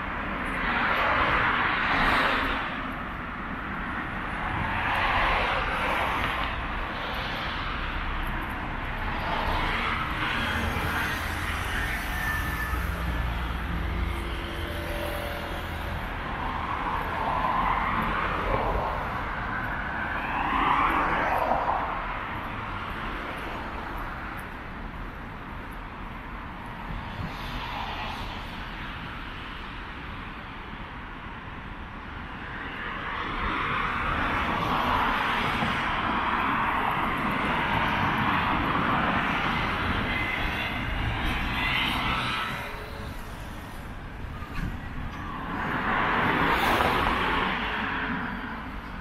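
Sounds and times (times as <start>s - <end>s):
vehicles passing: 0.0s - 49.0s.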